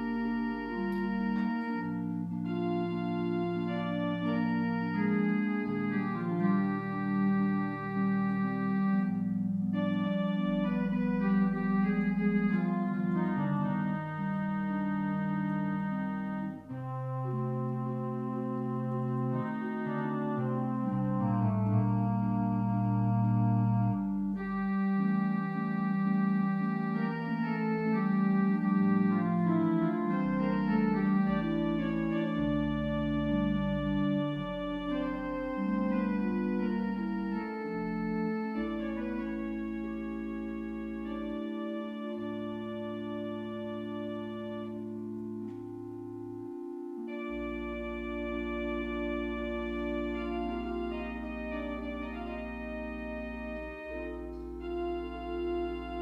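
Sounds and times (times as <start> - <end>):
organ playing slow chords: 0.0 - 56.0.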